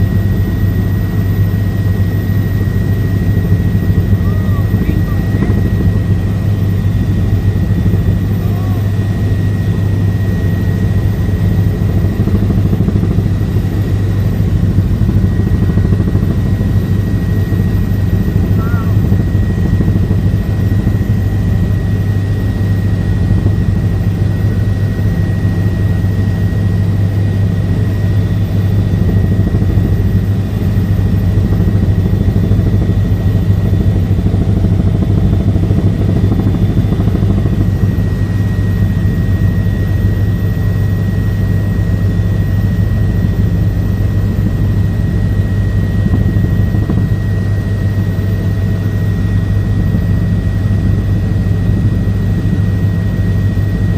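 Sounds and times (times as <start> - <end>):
helicopter drone inside cabin: 0.0 - 53.9
high whine: 0.0 - 53.9.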